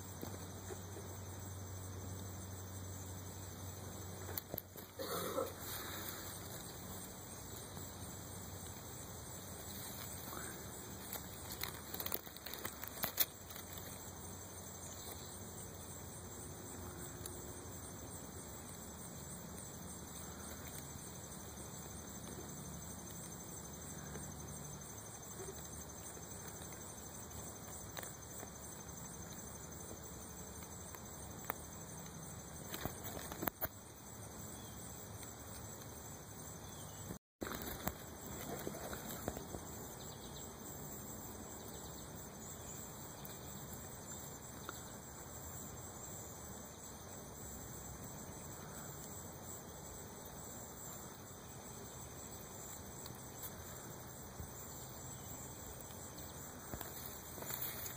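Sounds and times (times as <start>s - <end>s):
steady low hiss: 0.0s - 57.9s.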